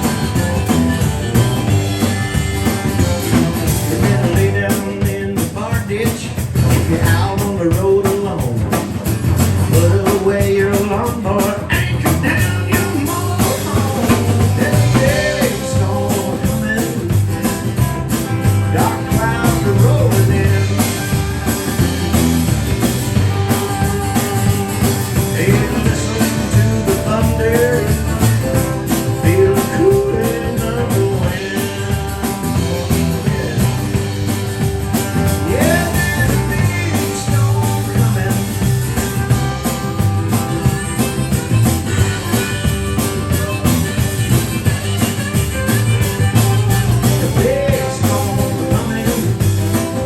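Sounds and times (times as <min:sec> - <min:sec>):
country-rock band playing: 0:00.0 - 0:50.0
sliding guitar lead line: 0:00.0 - 0:50.0.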